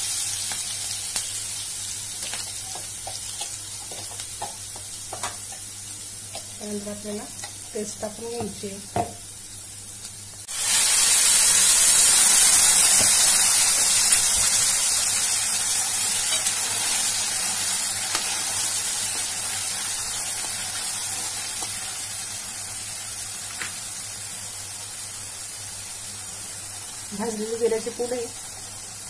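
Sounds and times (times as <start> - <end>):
paste sizzling in hot oil: 0.0 - 29.0.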